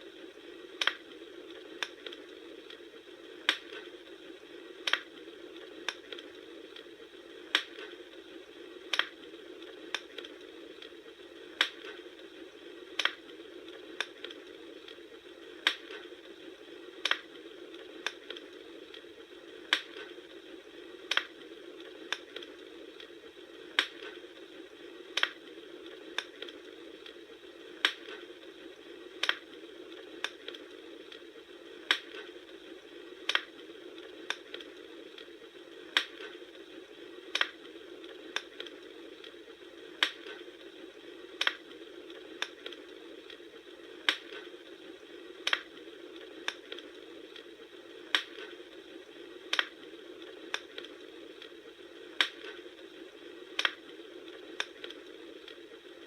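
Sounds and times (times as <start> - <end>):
campfire crackling and popping: 0.0 - 56.0
low fire hiss: 0.0 - 56.0.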